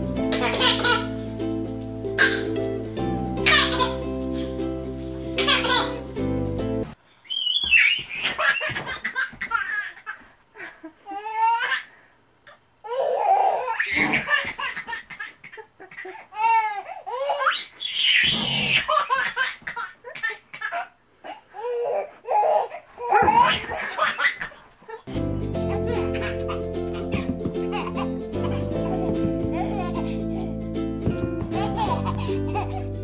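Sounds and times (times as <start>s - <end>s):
baby laughing: 0.3s - 1.2s, 2.2s - 2.6s, 3.4s - 4.1s, 5.4s - 6.0s, 7.6s - 11.9s, 12.9s - 33.0s.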